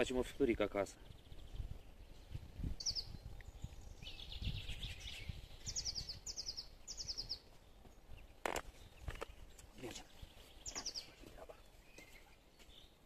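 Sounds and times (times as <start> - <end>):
songbird trilling: 1.0 - 13.0.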